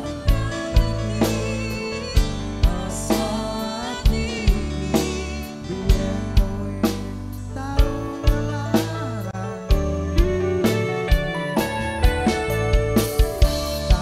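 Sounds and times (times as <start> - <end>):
man singing: 0.0 - 11.6, 13.6 - 14.0
bass: 0.0 - 14.0
hand drums and drum kit: 0.0 - 14.0.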